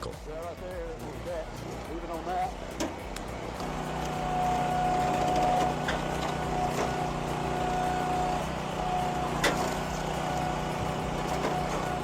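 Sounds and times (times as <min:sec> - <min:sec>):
small engine running: 0:00.0 - 0:12.0
thin steady whine: 0:00.0 - 0:12.0.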